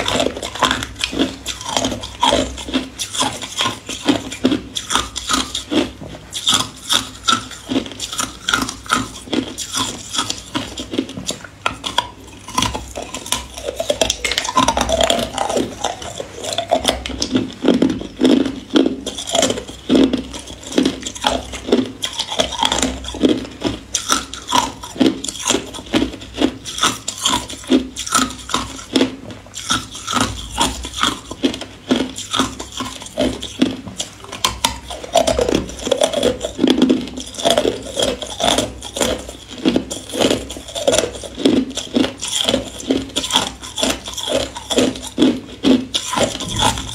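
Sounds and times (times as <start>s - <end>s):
ice balls crunching while chewed: 0.0s - 46.9s.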